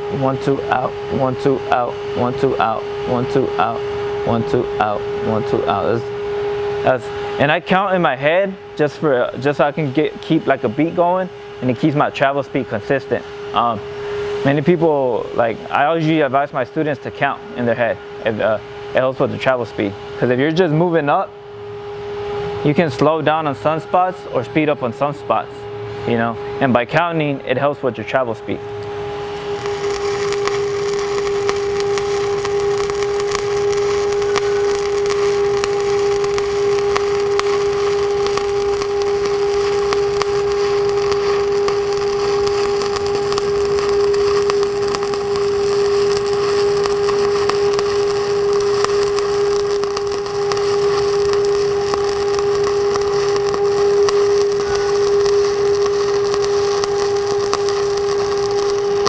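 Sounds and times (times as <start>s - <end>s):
welding arc crackling: 0.0s - 21.2s, 26.1s - 59.0s
steady pitched hum: 0.0s - 59.0s.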